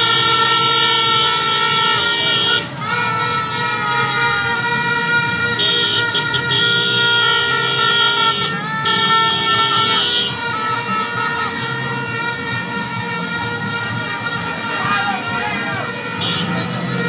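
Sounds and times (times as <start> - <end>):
vehicle horns honking: 0.0 - 17.0.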